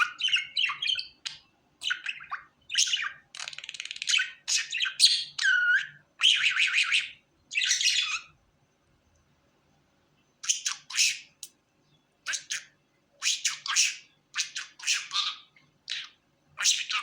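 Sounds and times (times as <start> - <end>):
budgerigar chirping and warbling: 0.0 - 8.4, 10.4 - 11.5, 12.2 - 17.0.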